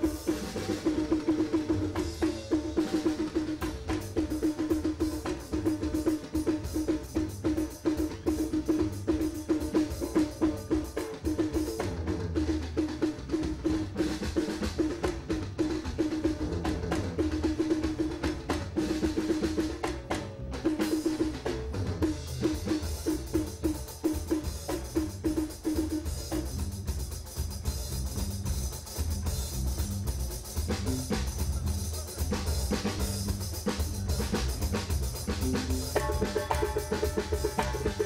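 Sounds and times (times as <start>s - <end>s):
drum kit playing: 0.0s - 38.0s
hand drum: 0.0s - 38.0s.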